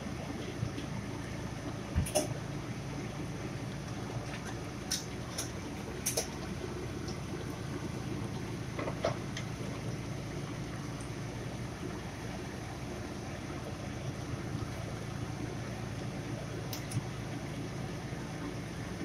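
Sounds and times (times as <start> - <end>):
bubbling sizzle in a frying pan: 0.0 - 19.0.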